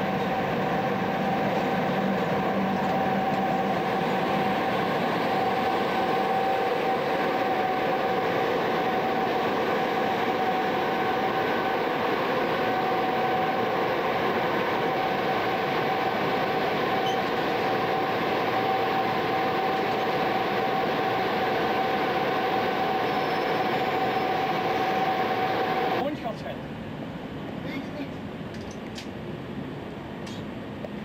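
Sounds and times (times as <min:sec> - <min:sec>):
cooling blowers whirring: 0:00.0 - 0:28.4
constant high whine: 0:00.0 - 0:31.0.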